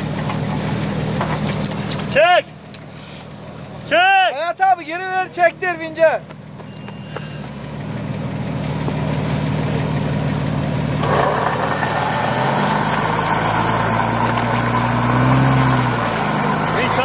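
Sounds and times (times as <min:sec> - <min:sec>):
off-road engine running under load: 0:00.0 - 0:17.0.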